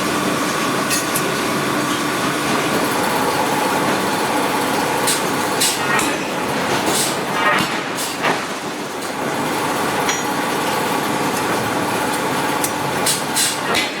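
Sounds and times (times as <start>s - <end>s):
industrial rumble and hiss: 0.0s - 14.0s.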